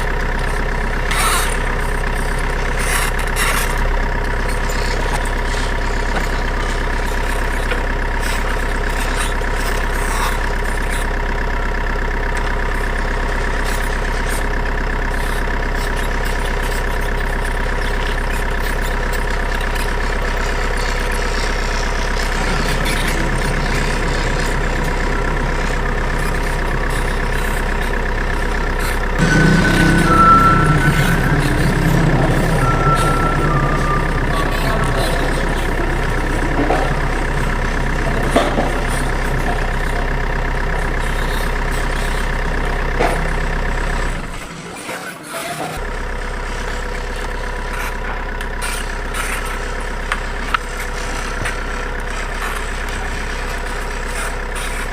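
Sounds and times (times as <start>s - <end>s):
toy truck engine idling and revving: 0.0s - 54.9s.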